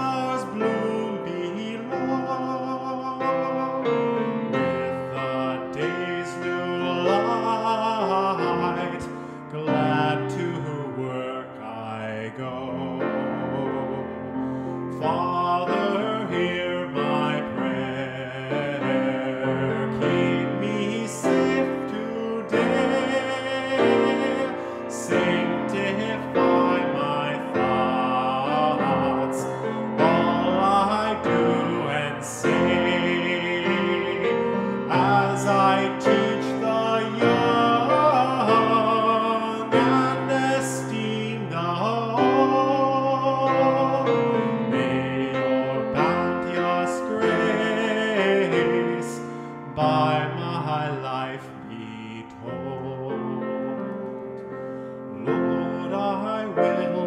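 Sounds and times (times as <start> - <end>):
hymn singing: 0.0 - 57.0
piano accompaniment: 0.0 - 57.0.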